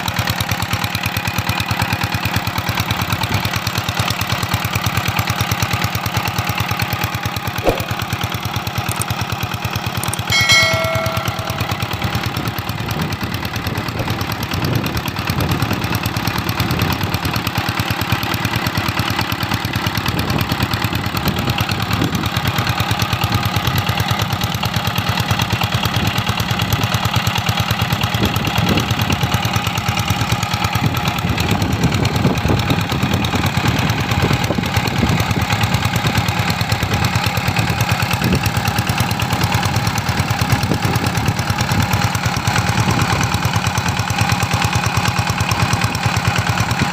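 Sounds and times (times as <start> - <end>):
diesel engine running a water pump: 0.0 - 7.0, 13.6 - 46.9.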